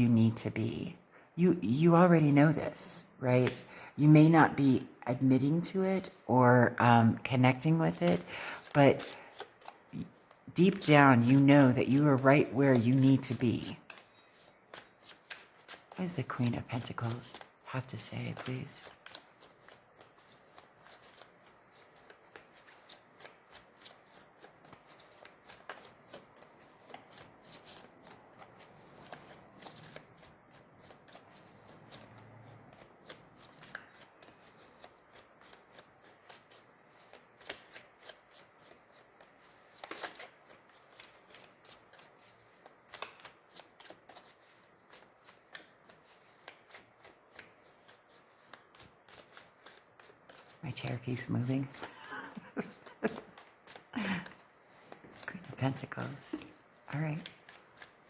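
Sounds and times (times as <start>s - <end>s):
cards being shuffled: 7.7s - 58.0s.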